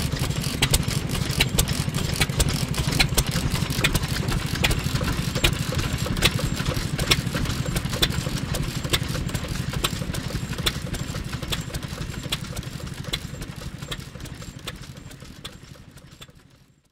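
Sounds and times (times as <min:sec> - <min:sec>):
stationary engine chuffing: 0:00.0 - 0:16.9.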